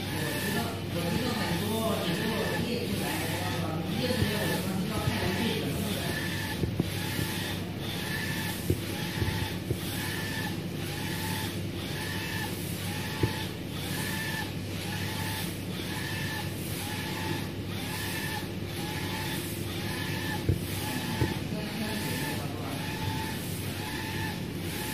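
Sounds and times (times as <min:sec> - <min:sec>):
printer carriage whining: 0:00.0 - 0:24.9
sharp printer clicks: 0:00.0 - 0:24.9
steady low hum: 0:00.0 - 0:24.9.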